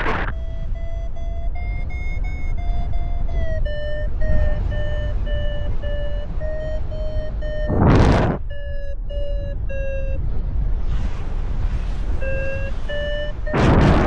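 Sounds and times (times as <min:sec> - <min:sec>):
variometer beeping: 0:00.0 - 0:10.7, 0:12.1 - 0:14.0
wind rumble on microphone: 0:02.0 - 0:14.0.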